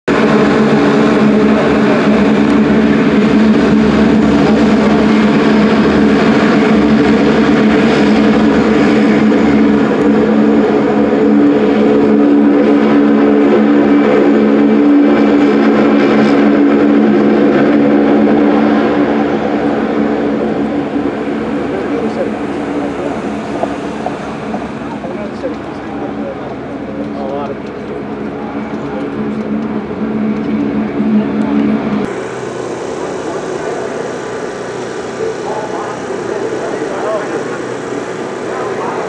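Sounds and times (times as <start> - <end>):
machinery drone: 0.1 - 39.0.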